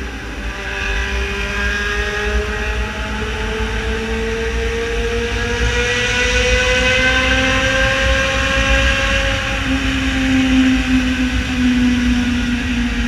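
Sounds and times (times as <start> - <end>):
motorcycle engine running loud: 0.0 - 13.0.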